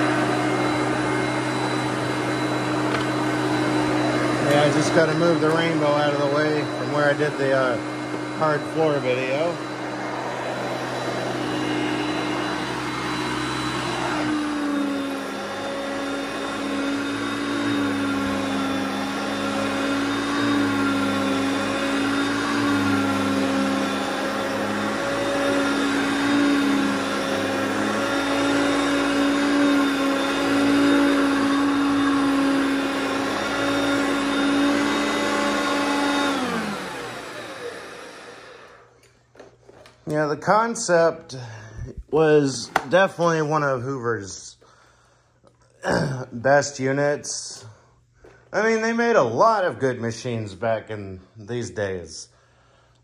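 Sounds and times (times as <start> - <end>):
vacuum cleaner motor whine: 0.0 - 44.1.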